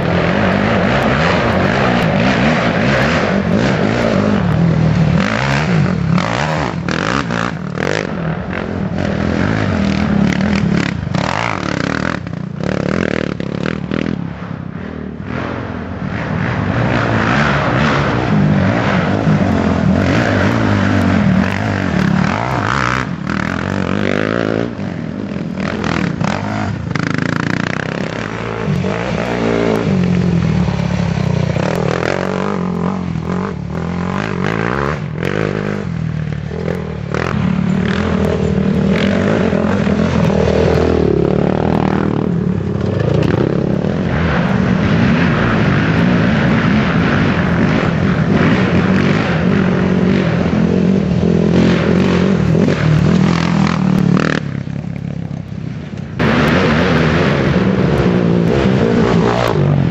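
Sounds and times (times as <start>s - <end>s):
quad engines revving: 0.0s - 59.9s.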